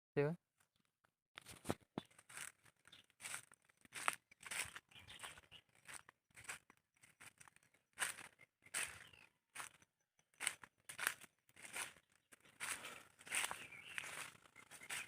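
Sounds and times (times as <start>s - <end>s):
footsteps crunching dry leaves: 1.4s - 9.8s, 10.4s - 15.0s.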